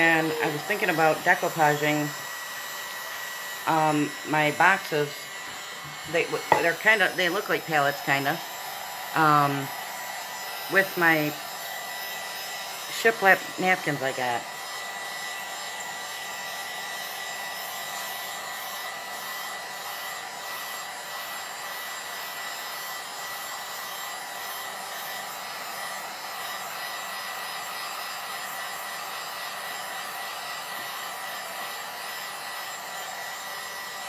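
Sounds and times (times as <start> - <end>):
hair dryer blowing: 0.0 - 34.0.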